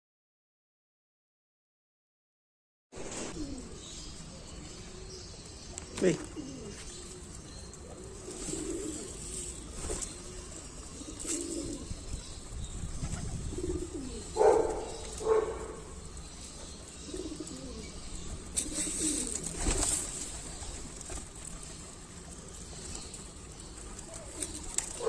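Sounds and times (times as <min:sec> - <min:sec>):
pigeons cooing: 0:03.0 - 0:25.0.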